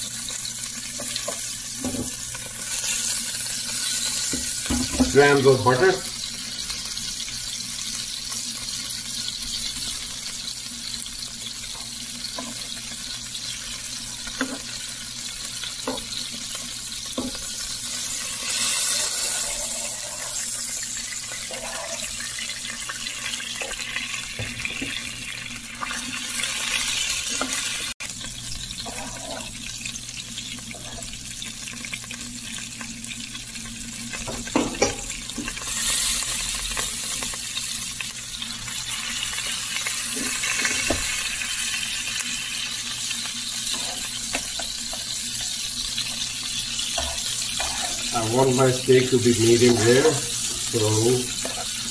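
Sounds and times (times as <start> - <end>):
steaks sizzling in a frying pan: 0.0 - 51.9.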